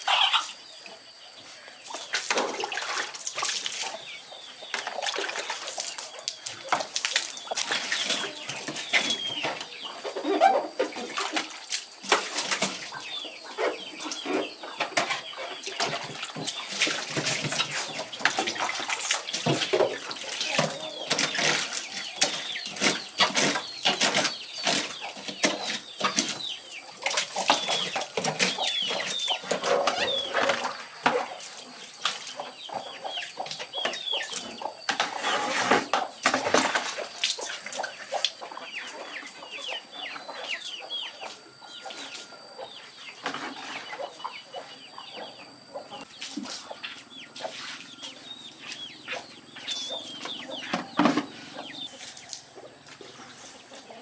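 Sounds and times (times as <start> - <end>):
chickens clucking: 0.0 - 54.0
chicks peeping: 0.0 - 54.0.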